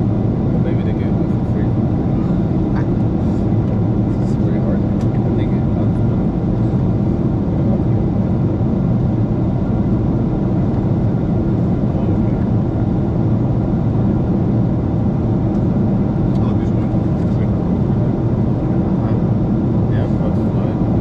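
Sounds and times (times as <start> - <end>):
jet cabin rumble: 0.0 - 21.0.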